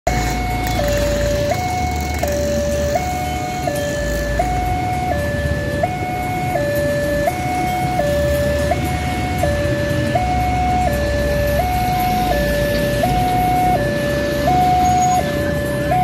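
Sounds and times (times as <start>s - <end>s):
two-tone crossing alarm: 0.1s - 16.0s.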